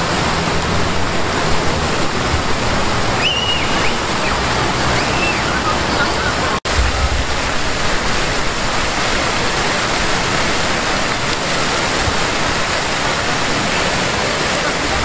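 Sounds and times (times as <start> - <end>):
fountain water splashing into basin: 0.0 - 15.0.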